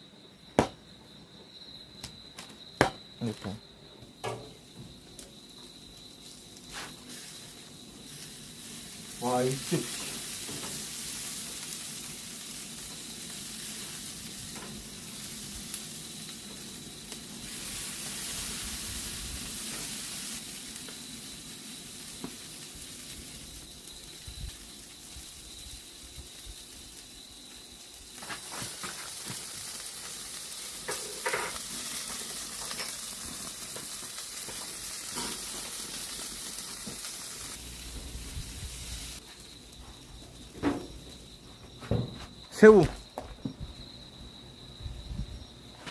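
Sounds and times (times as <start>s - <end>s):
food sizzling on grill: 2.6s - 41.4s.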